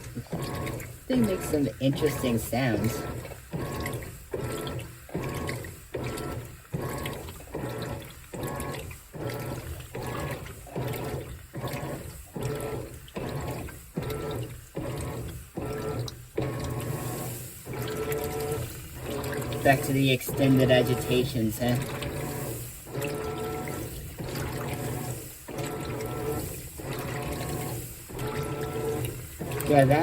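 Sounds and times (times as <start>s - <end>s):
washing machine agitator whirring: 0.0s - 30.0s
water swishing: 0.0s - 30.0s.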